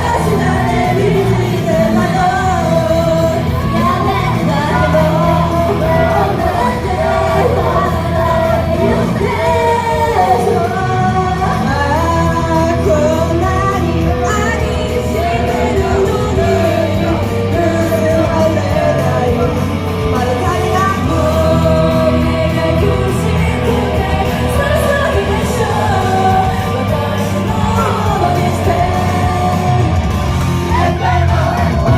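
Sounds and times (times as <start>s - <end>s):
person singing: 0.0s - 31.9s
pop backing track with beat: 0.0s - 31.9s.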